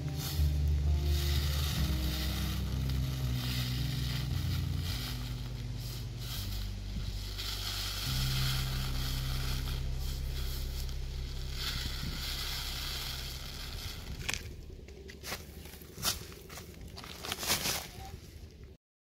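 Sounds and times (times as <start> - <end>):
dry seed heads crackling and rustling: 0.0 - 18.8
low steady hum: 0.0 - 18.8.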